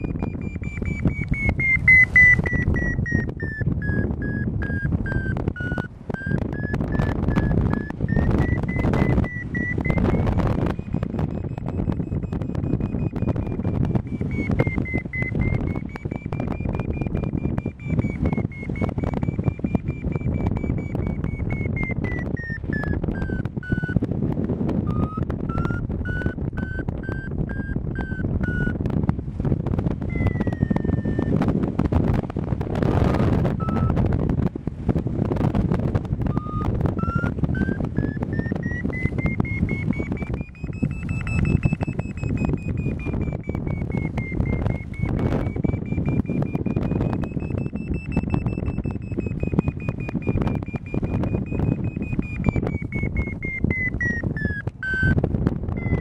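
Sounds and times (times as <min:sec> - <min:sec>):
variometer short beeps: 0:00.0 - 0:56.0
wind buffeting microphone: 0:00.0 - 0:56.0.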